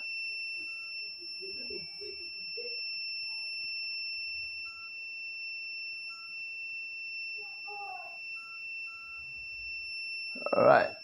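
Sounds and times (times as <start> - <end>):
high-pitched electronic whine: 0.0 - 11.0.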